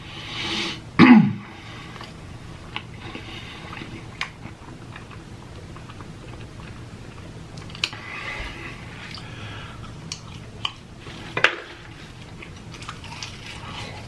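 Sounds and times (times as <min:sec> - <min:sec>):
person chewing food: 0:01.6 - 0:14.0.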